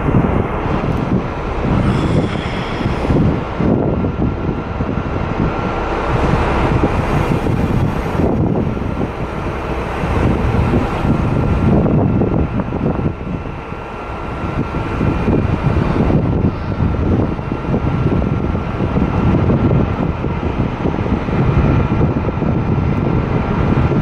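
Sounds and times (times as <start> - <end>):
faint steady whine: 0.0 - 23.9
train rumble: 0.0 - 24.0
wind buffeting microphone: 0.0 - 24.0.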